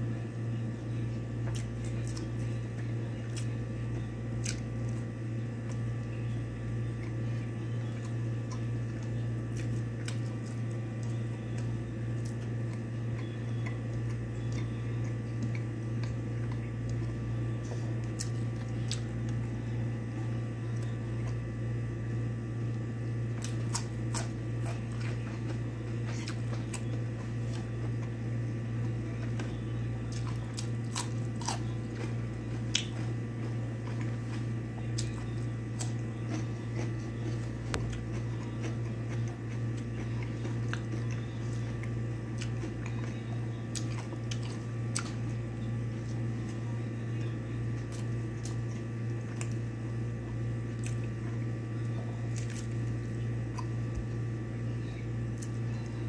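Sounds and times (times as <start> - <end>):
steady low hum: 0.0 - 56.0
person chewing food: 1.4 - 21.4, 22.7 - 54.4.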